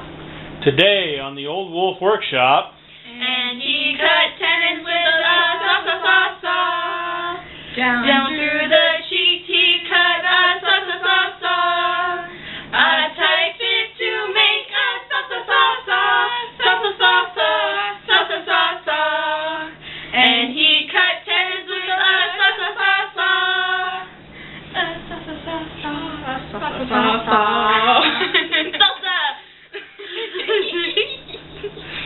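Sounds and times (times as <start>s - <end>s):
women singing unaccompanied: 3.0s - 29.4s.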